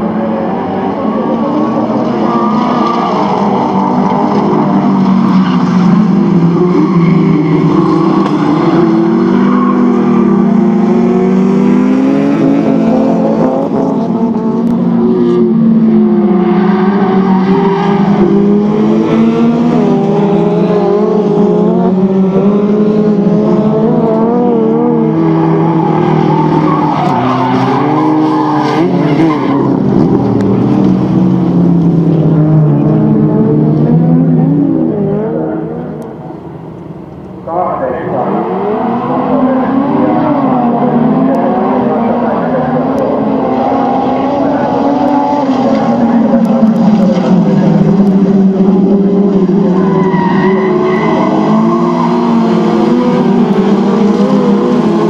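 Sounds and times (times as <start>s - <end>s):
car engines racing at high revs: 0.0s - 55.0s.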